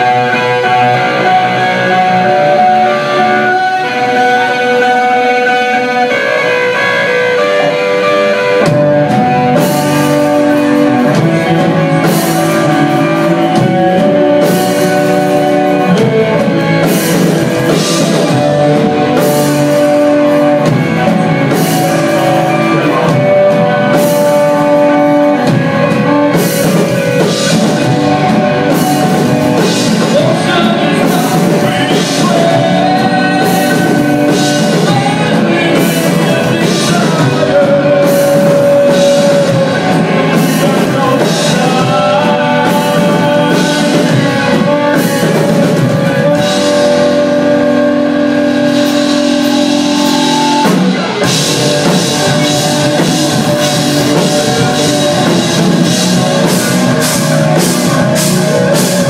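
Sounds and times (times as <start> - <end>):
band playing live: 0.0 - 59.0
electric guitar ringing: 0.0 - 59.0
vocals: 0.0 - 59.0.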